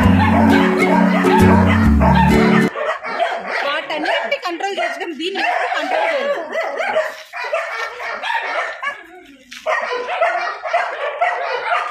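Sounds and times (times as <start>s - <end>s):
dogs barking and yipping: 0.0s - 11.9s.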